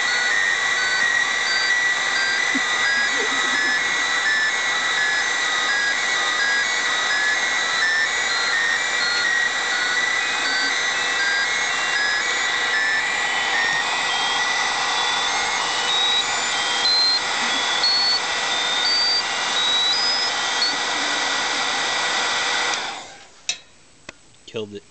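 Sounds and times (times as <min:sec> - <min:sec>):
electronic warning buzzer: 0:00.0 - 0:22.2
short beeps changing pitch: 0:00.1 - 0:21.3.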